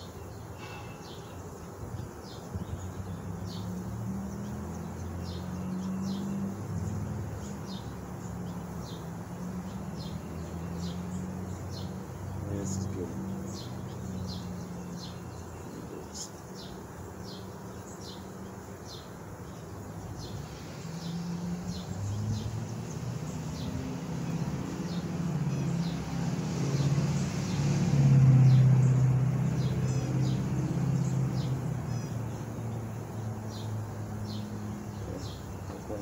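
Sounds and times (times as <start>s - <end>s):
small bird chirping: 0.0s - 27.8s, 28.4s - 36.0s.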